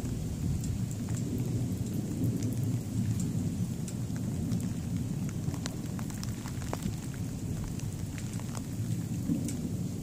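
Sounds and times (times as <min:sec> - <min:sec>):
rain: 0:00.0 - 0:10.0
raindrops ticking close by: 0:00.0 - 0:10.0
thunder rumbling: 0:00.0 - 0:10.0.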